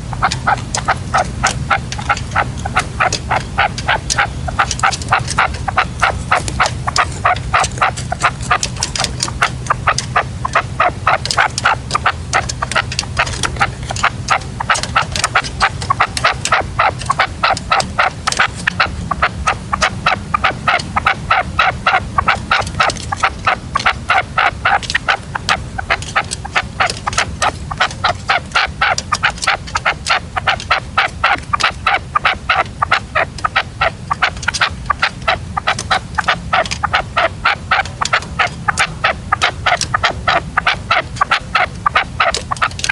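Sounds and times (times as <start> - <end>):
partridge calling: 0.0 - 42.9.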